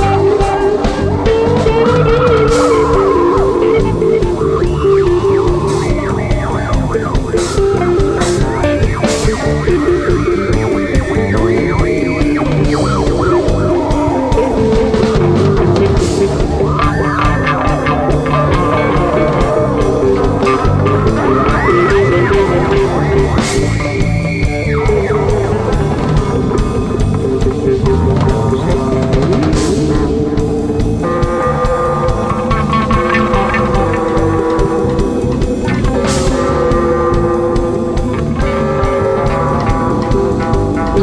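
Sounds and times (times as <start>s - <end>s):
rock band playing: 0.0s - 41.0s
wavering guitar lines: 0.0s - 41.0s.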